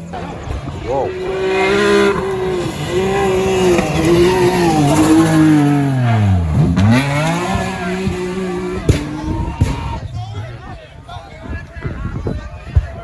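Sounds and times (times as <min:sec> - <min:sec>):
rally car engine revving past: 0:00.0 - 0:10.8.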